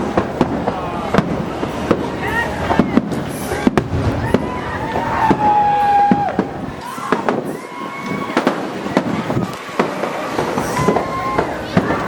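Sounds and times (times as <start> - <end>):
fireworks bangs and pops: 0.0 - 12.0
fireworks whistles: 0.0 - 12.0.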